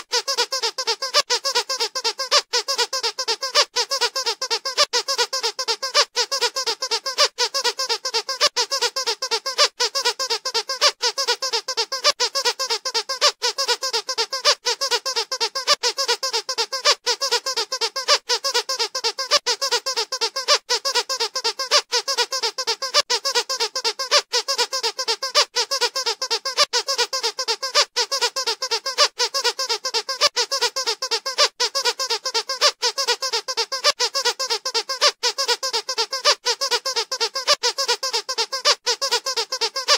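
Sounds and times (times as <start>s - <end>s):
squeaky dog toy squeaking: 0.0s - 39.9s.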